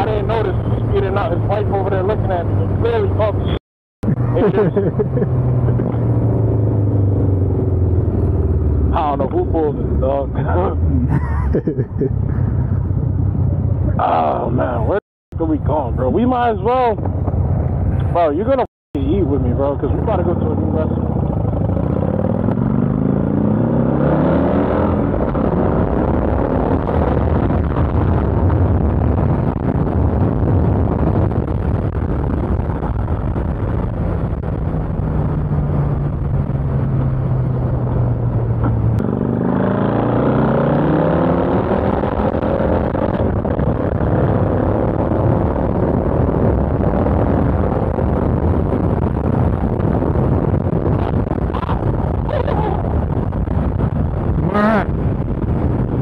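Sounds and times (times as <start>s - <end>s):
motorcycle engine: 0.0s - 9.8s, 19.6s - 56.0s
wind rush: 0.0s - 56.0s.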